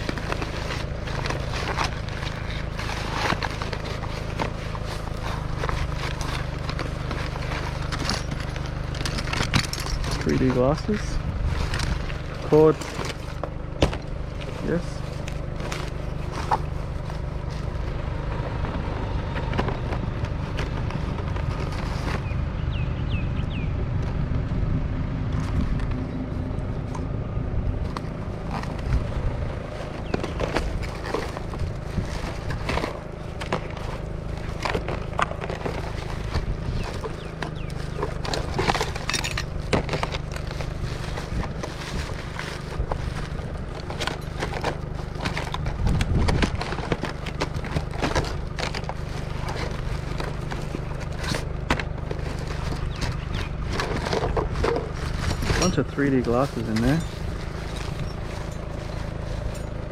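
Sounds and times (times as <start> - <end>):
plastic items clattering: 0.0 - 22.4, 27.9 - 59.9
vehicle engine idling: 0.0 - 59.9.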